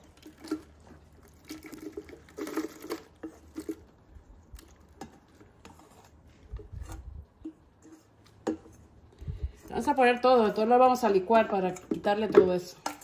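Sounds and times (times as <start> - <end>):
dried chiles pattering into blender: 0.0 - 13.0.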